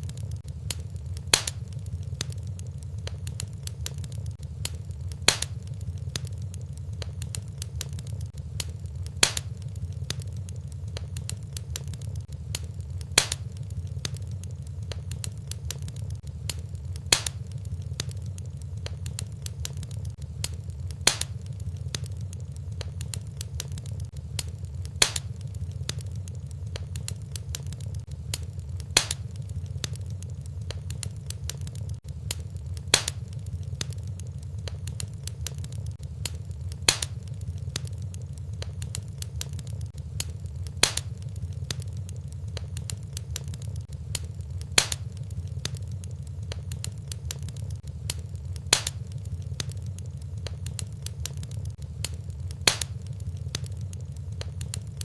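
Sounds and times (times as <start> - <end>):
steady low rumble: 0.0 - 55.0
wood fire crackling: 0.0 - 55.0
sharp fire pop: 0.1 - 2.5, 3.1 - 26.1, 26.8 - 42.0, 42.6 - 45.8, 46.5 - 49.8, 50.4 - 53.8.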